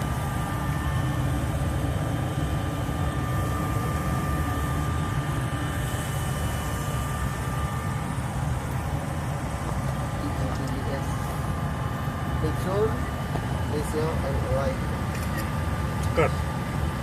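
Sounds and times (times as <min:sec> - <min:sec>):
faint constant whine: 0:00.0 - 0:17.0.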